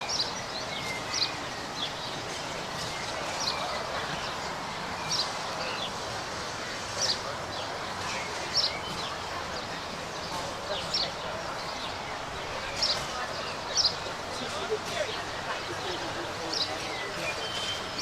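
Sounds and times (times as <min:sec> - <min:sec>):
birds chirping: 0:00.0 - 0:18.0
outdoor background noise: 0:00.0 - 0:18.0.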